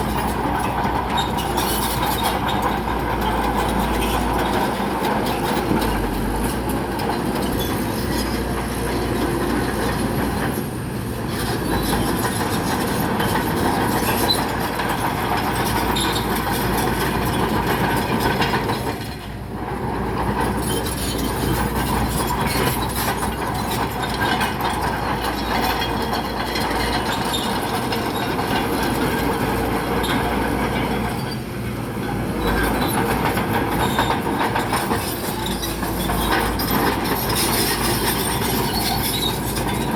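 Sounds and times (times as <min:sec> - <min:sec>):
bulldozer diesel engine under load: 0:00.0 - 0:39.9
steel tracks clanking: 0:00.0 - 0:39.9.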